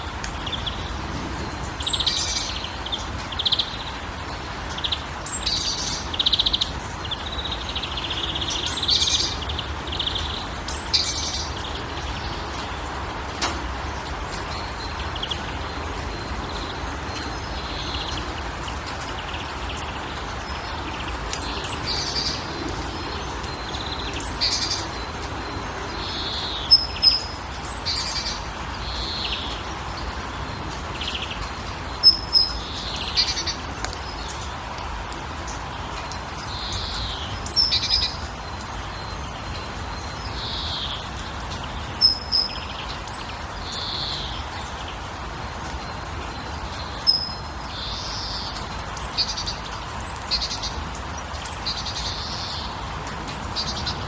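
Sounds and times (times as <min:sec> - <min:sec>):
wild birds chirping and trilling: 0:00.0 - 0:54.0.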